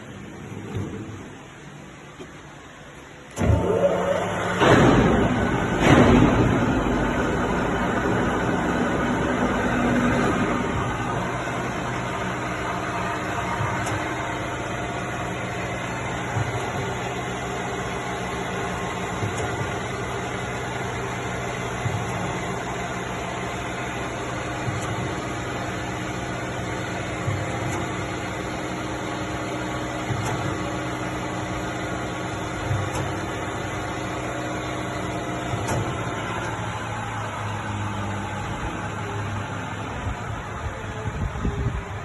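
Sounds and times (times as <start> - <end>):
milling machine motor hum: 0.0 - 42.0.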